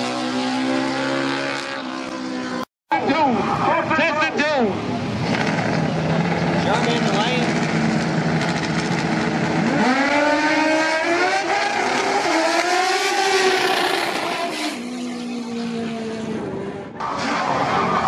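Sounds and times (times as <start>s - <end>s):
motorcycle engines revving: 0.0s - 2.7s, 4.6s - 18.0s.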